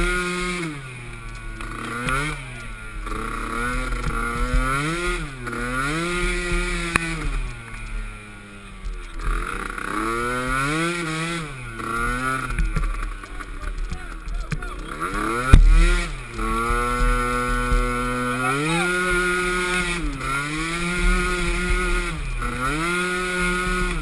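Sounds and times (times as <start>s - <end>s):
small atv engine revving: 0.0s - 24.0s.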